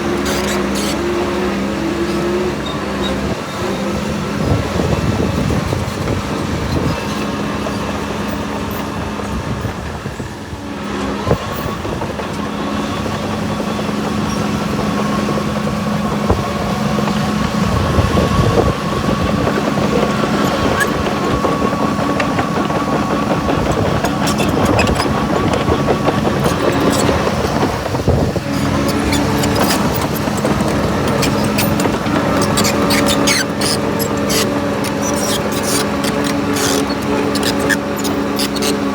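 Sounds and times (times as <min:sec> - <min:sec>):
engine whine: 0:00.0 - 0:38.9
heavy machine engine running: 0:00.0 - 0:38.9.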